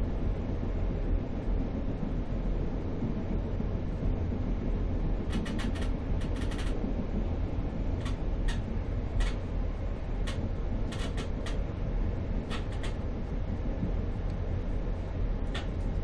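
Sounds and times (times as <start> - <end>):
train coach rolling rumble: 0.0 - 16.0.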